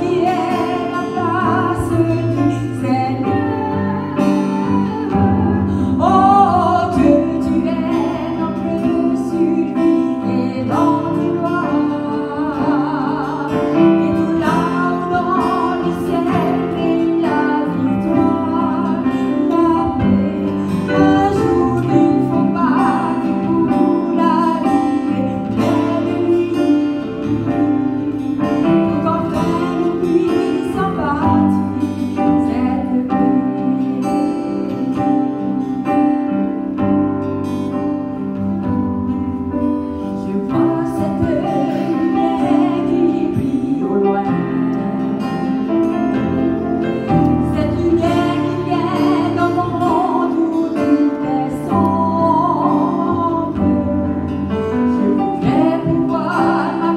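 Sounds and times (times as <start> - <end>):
instrumental accompaniment: 0.0 - 56.9
woman singing into a microphone: 0.0 - 56.9.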